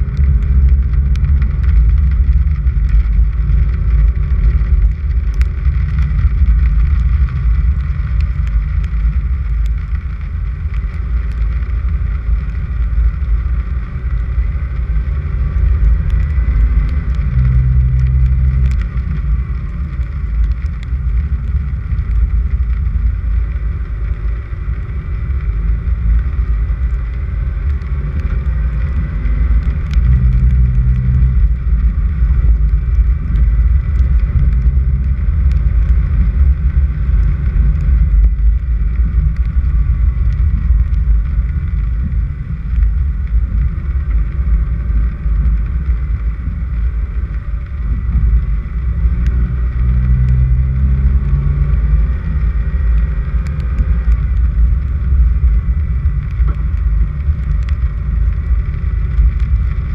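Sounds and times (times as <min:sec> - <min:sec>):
car driving on dirt road: 0:00.0 - 0:59.9
wind on microphone: 0:00.0 - 0:59.9.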